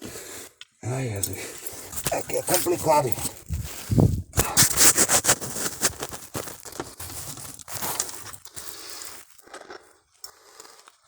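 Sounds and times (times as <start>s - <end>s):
rustling and scraping in cave: 0.0s - 11.0s.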